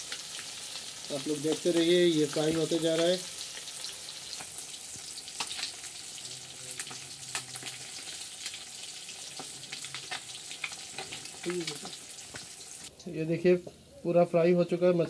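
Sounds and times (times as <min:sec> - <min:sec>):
fish sizzling in hot oil: 0:00.0 - 0:12.9
oil crackling and popping: 0:00.0 - 0:12.9.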